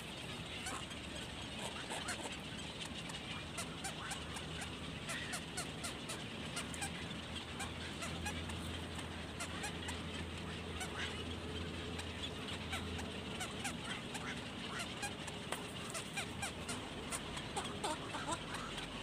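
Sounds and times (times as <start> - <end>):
herons chattering calls: 0.0 - 19.0.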